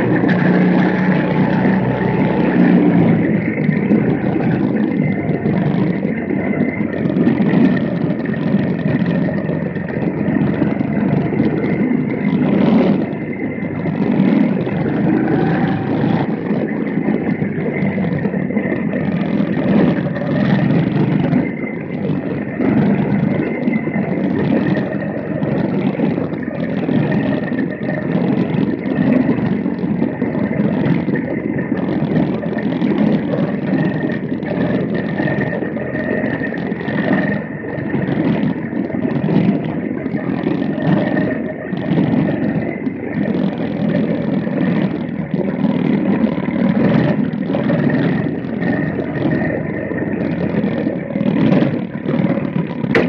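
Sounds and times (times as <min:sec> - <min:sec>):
small race car engines buzzing: 0:00.0 - 0:53.0.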